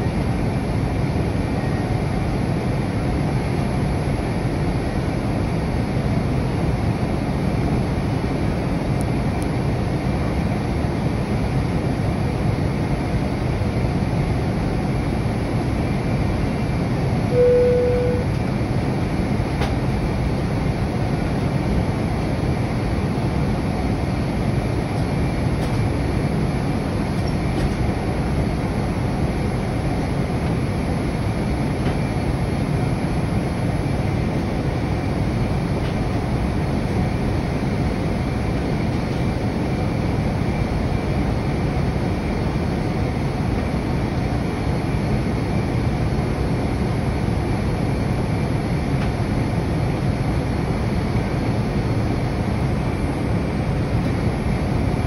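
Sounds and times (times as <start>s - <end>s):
airliner cabin engine and airflow noise: 0.0s - 55.0s.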